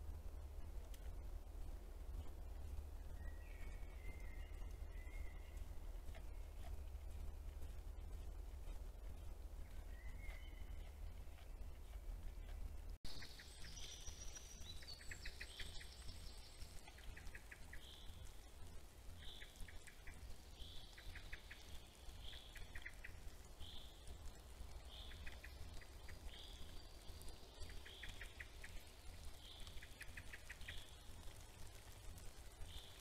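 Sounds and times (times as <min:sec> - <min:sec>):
low steady rumble: 0:00.0 - 0:33.0
songbirds singing: 0:00.0 - 0:33.0.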